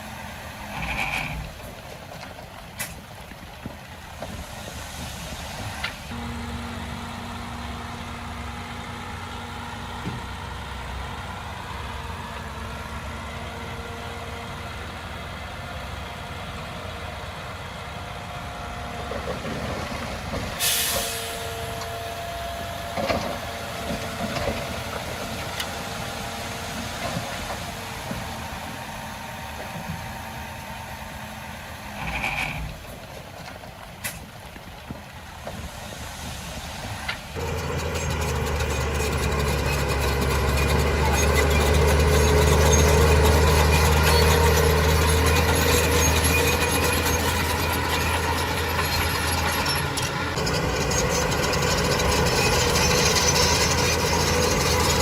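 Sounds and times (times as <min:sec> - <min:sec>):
diesel construction vehicle running: 0:00.0 - 0:55.0.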